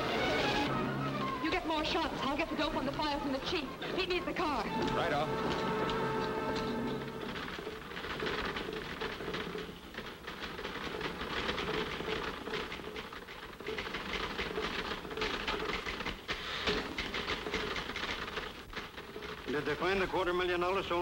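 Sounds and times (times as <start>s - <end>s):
typewriters clattering: 0.0s - 21.0s.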